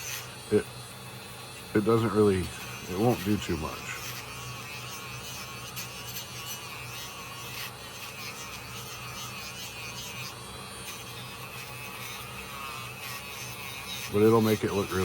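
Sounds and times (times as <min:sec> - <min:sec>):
rotary tool wire brush buzzing: 0:00.0 - 0:15.0.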